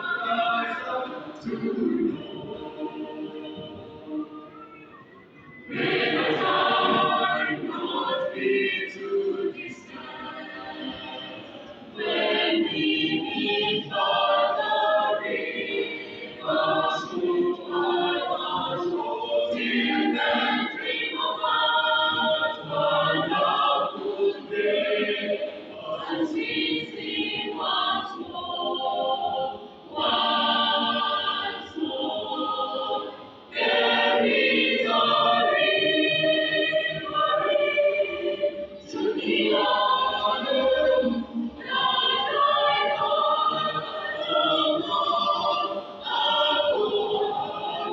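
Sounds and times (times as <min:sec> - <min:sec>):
choir singing: 0:00.0 - 0:47.9.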